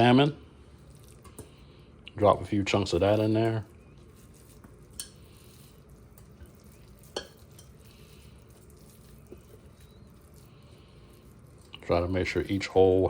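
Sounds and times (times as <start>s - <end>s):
handling raw fish: 0.0s - 13.0s.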